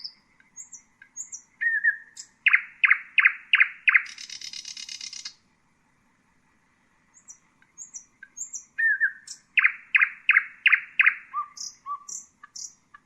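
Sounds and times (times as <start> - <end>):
nightingale singing: 0.0 - 5.5, 7.0 - 13.0.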